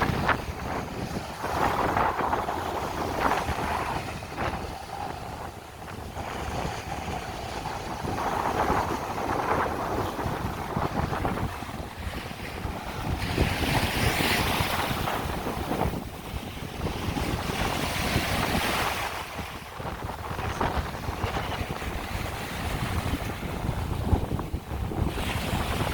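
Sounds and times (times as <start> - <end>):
surf washing on shore: 0.0 - 25.9
wind buffeting microphone: 0.0 - 25.9.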